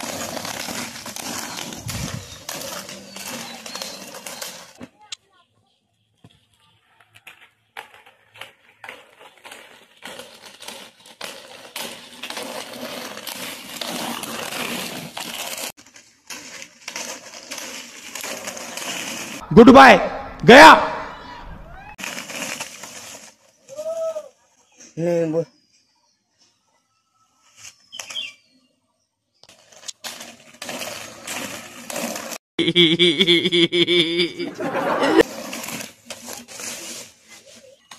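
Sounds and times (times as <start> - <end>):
skate wheels rolling on asphalt: 0.0 - 19.6, 20.4 - 26.6, 27.3 - 32.4, 34.3 - 37.9.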